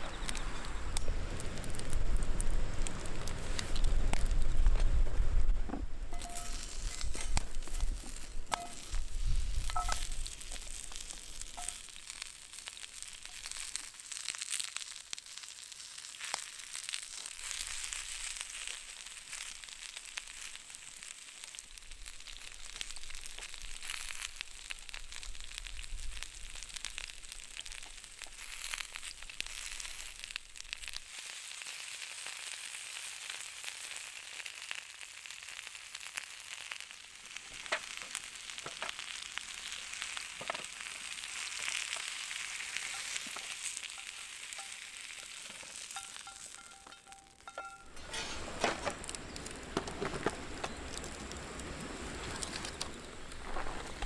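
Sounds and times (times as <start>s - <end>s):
wood fire crackling: 0.0s - 54.0s
food sizzling in a pan: 6.1s - 54.0s.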